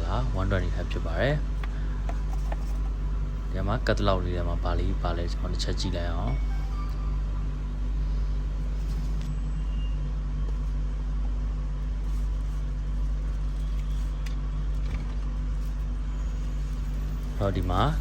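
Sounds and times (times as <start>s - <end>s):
constant hum: 0.0s - 18.0s
low mechanical rumble: 0.0s - 18.0s.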